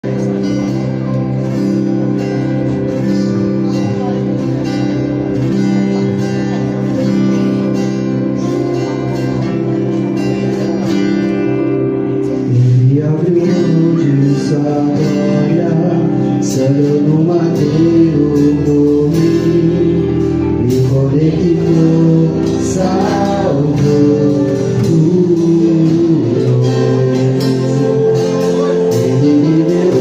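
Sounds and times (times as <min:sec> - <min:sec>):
guitar playing held chords: 0:00.0 - 0:30.0.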